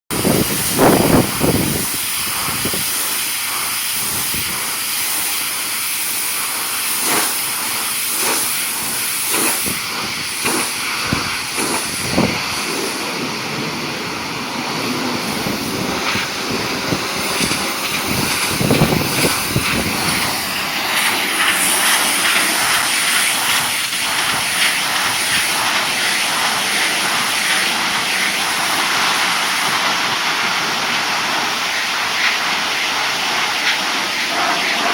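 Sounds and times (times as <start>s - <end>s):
pressure washer spraying water: 0.1s - 34.9s.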